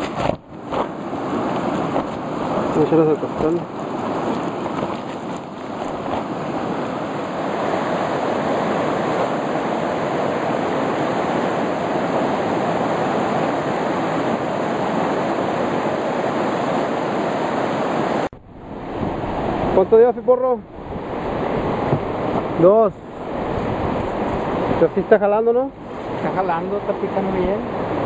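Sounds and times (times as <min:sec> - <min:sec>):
river water rushing over rapids: 0:00.0 - 0:28.0.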